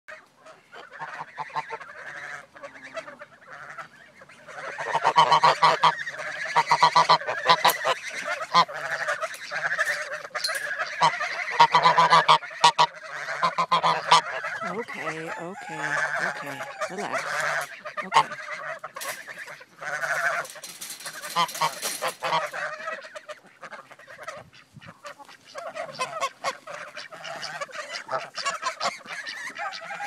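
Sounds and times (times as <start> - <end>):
geese honking: 0.1 - 30.0.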